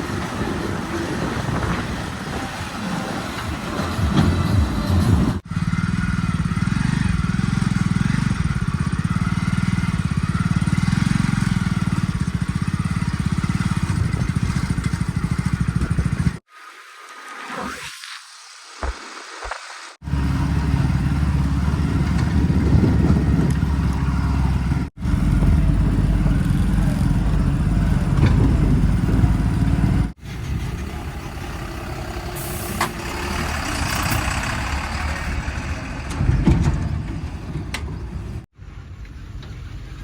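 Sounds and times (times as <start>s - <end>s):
diesel machinery engines running: 0.0s - 16.4s, 20.0s - 40.0s.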